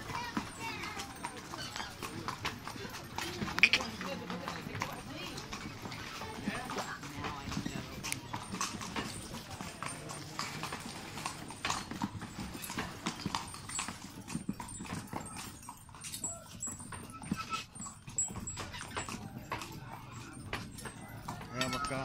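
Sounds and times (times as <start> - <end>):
horse hooves clip-clopping on street: 0.0 - 22.0.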